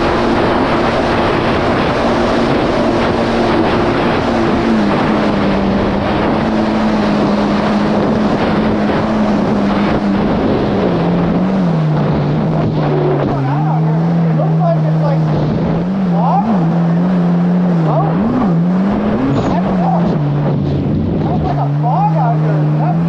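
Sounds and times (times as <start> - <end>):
jet ski engine running: 0.0 - 23.0
rushing wind and water: 0.0 - 23.0.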